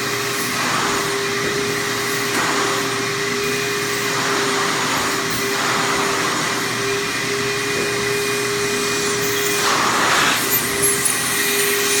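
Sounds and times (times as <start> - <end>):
vacuum cleaner whining: 0.0 - 12.0.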